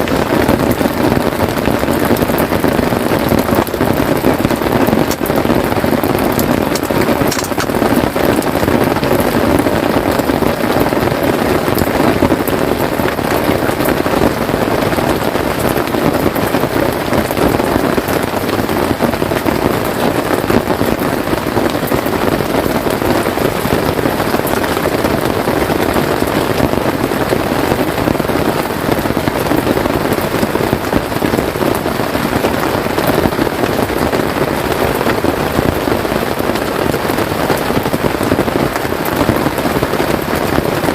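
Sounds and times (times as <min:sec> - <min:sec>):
rain pattering on a tent: 0:00.0 - 0:40.9.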